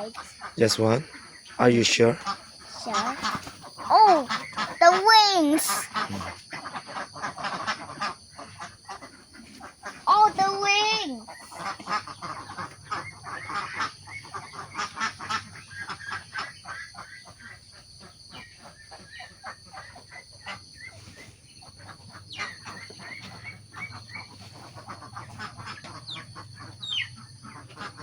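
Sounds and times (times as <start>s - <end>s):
ducks quacking: 0.0s - 28.0s.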